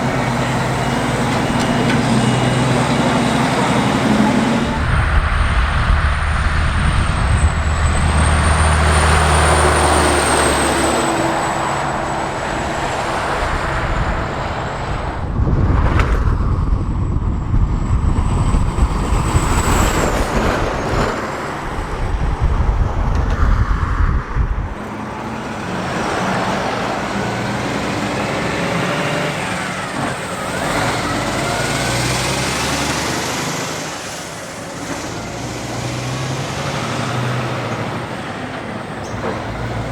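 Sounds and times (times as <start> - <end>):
road and traffic noise: 0.0 - 39.9
truck diesel engines running: 0.0 - 39.9.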